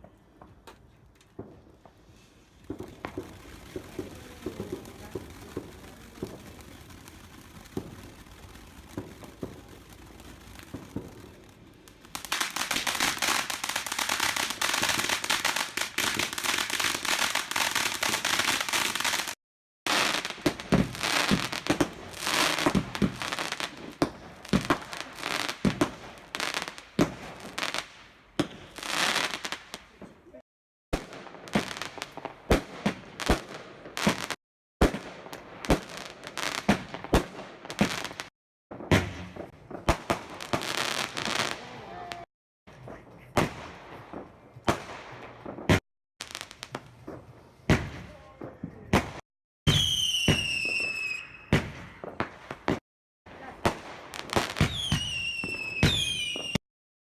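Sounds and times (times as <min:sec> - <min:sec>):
fireworks bangs: 0:00.0 - 0:56.6
fireworks popping and crackling: 0:00.0 - 0:56.6.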